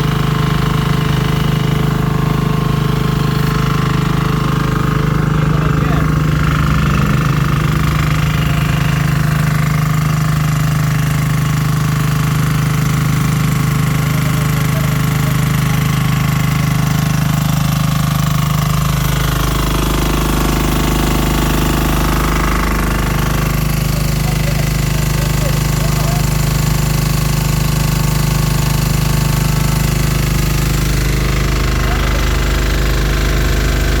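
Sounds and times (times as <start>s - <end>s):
pressure washer diesel engine running: 0.0s - 34.0s.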